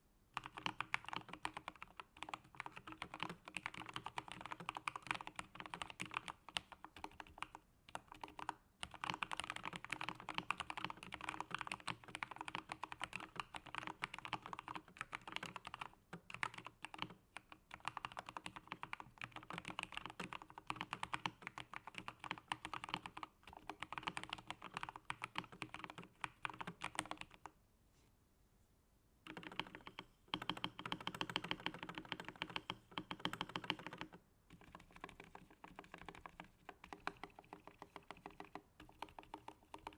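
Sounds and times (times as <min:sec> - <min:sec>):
mechanical keyboard typing: 0:00.4 - 0:27.5, 0:29.3 - 0:39.9.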